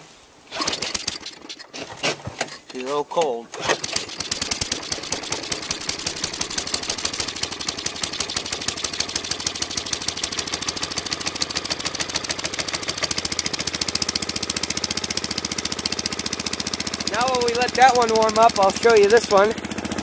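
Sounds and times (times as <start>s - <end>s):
small engine running: 0.5s - 1.6s, 3.6s - 20.0s.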